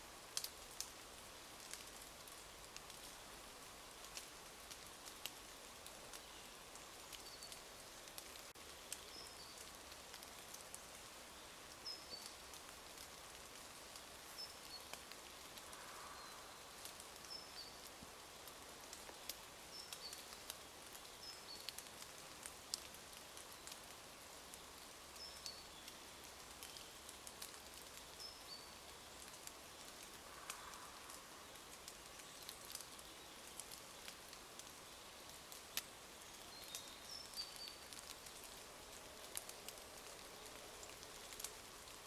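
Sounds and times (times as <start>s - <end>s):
light rain pattering and dripping: 0.0s - 42.0s.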